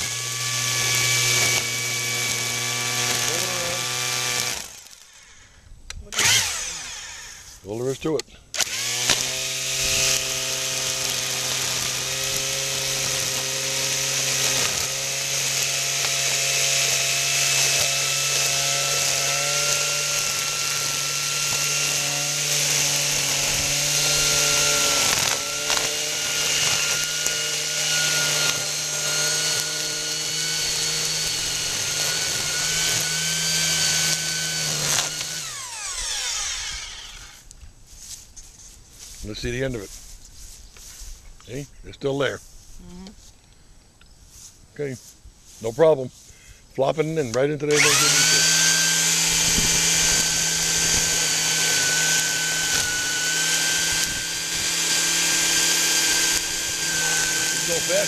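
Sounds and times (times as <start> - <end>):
string trimmer motor whine: 0.0 - 5.2, 5.9 - 7.7, 8.5 - 37.6, 47.3 - 58.0.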